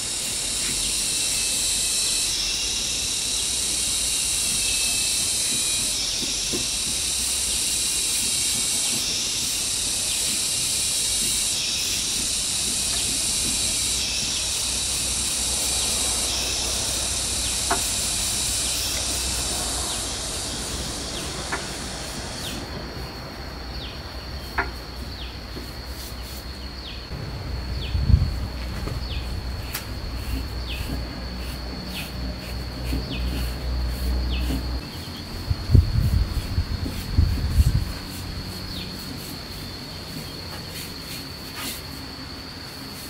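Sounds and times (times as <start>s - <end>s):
insect trilling and chirping: 0.0s - 43.0s
shrill insect chorus: 0.0s - 43.0s.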